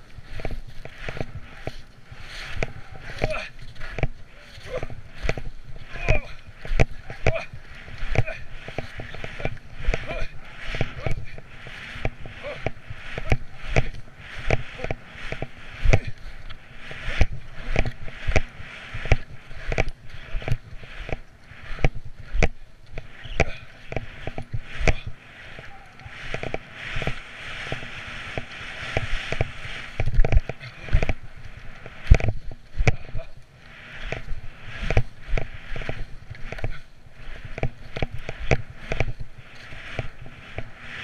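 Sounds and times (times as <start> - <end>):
skis knocking on bumps: 0.0 - 41.0
skis scraping over snow: 0.0 - 41.0.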